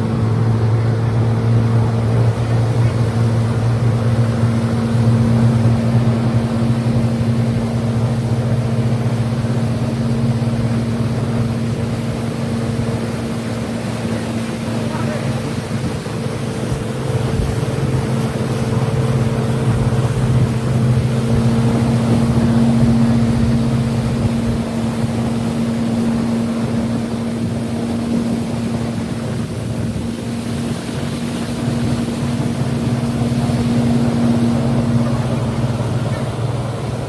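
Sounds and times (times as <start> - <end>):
motorboat engine humming: 0.0 - 37.0
rush of wind and water: 0.0 - 37.0.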